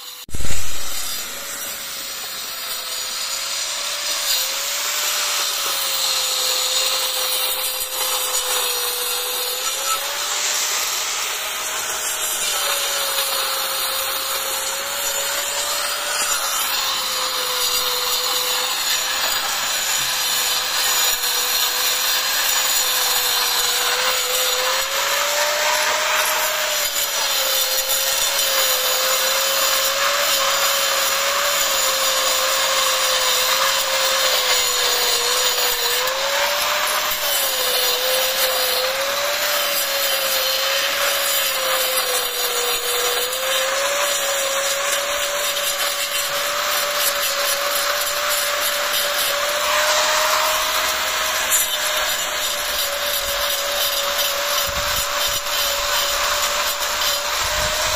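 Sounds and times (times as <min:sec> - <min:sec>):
angle grinder cutting brick: 0:00.0 - 0:57.9.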